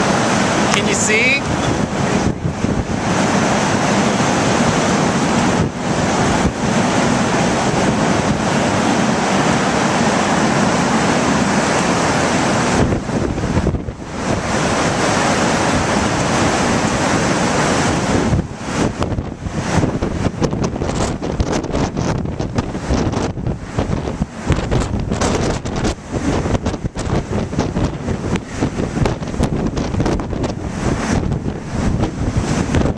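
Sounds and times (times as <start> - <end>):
wind buffeting the microphone: 0.0 - 32.9.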